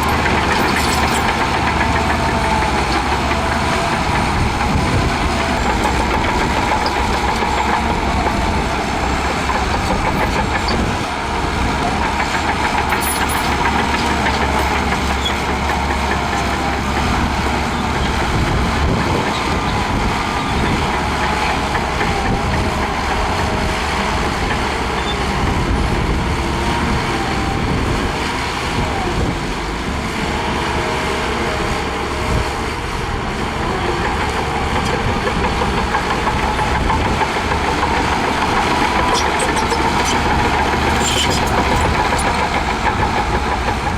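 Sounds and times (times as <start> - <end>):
diesel earthmoving machinery running: 0.0 - 43.9.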